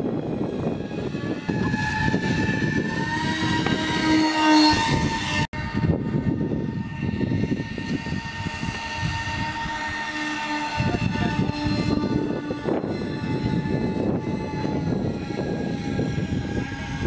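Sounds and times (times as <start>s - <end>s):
electric motor and propeller whining: 0.0s - 17.0s
wind noise on microphone: 0.0s - 17.0s.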